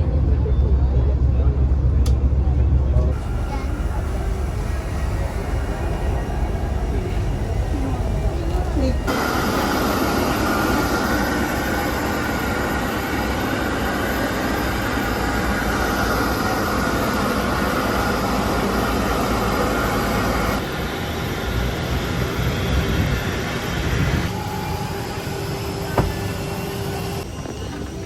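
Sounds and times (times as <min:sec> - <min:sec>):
aircraft rumbling hiss: 0:03.1 - 0:28.0
high steady whine: 0:03.1 - 0:28.0.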